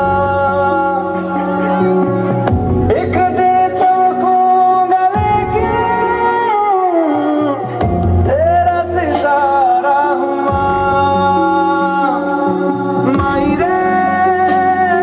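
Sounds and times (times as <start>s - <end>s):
instrumental backing music: 0.0s - 15.0s
person singing long notes: 0.0s - 15.0s.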